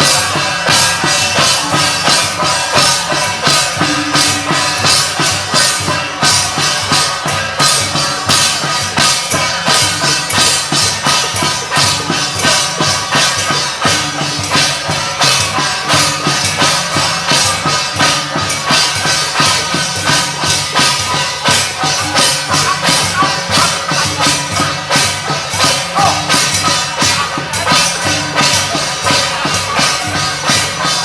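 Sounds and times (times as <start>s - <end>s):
drums and cymbals beating: 0.0s - 31.0s.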